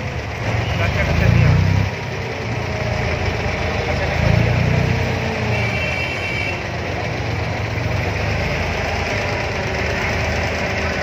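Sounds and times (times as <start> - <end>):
boat diesel engine chugging: 0.0 - 11.0.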